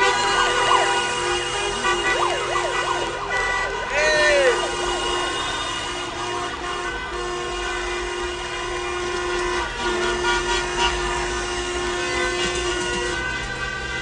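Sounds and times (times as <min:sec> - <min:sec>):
car horns honking: 0:00.0 - 0:14.0.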